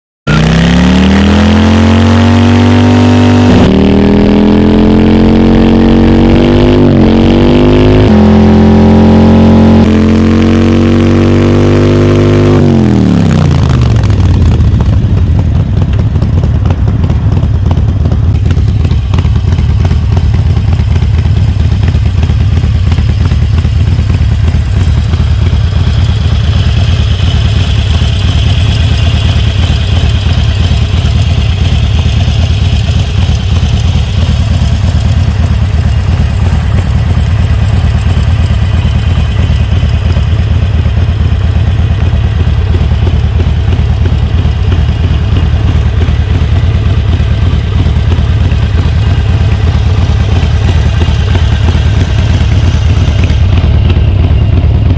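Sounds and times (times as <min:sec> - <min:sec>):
motorcycle engine revving: 0:00.3 - 0:54.9.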